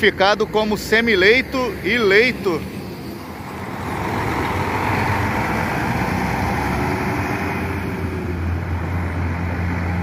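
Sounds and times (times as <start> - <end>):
coach diesel engine: 0.0 - 10.0
road noise: 0.0 - 10.0.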